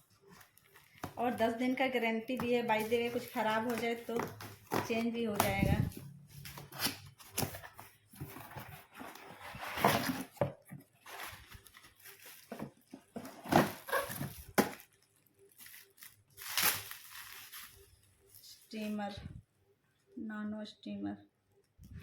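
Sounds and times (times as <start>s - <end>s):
packaging rustling and crinkling: 0.0s - 18.9s.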